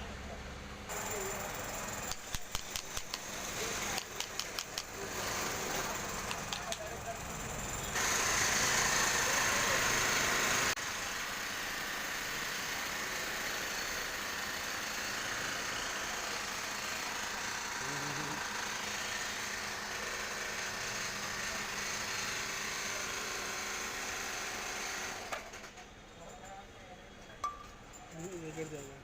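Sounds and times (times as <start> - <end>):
small motor running: 0.9 - 25.7.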